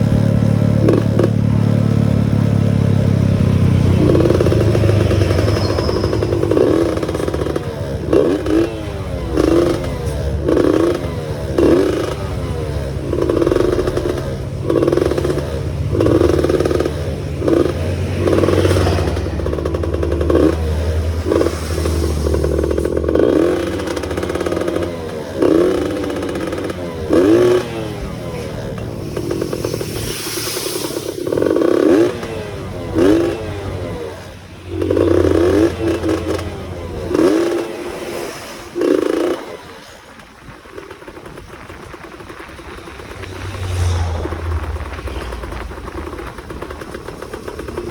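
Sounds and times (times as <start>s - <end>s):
motorcycle engine surging: 0.0s - 47.9s.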